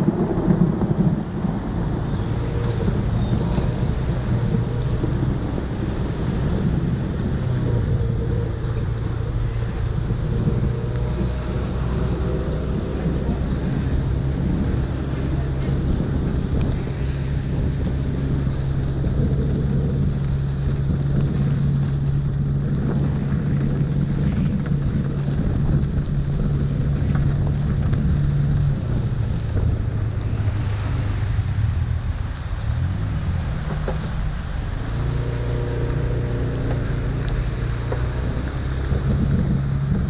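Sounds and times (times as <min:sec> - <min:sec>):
rain water and wind noise: 0:00.0 - 0:40.0
vehicle engine running: 0:00.0 - 0:40.0.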